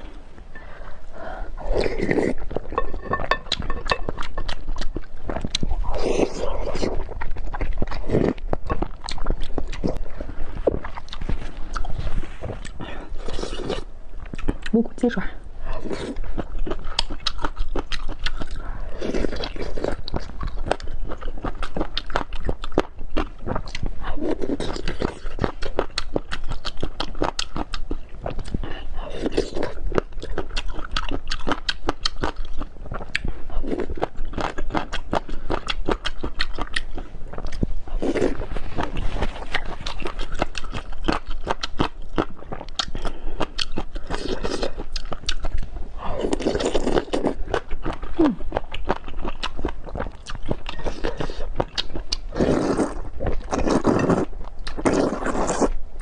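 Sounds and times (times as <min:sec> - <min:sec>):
wet crunchy chewing: 0:01.6 - 0:14.7, 0:15.7 - 0:55.8.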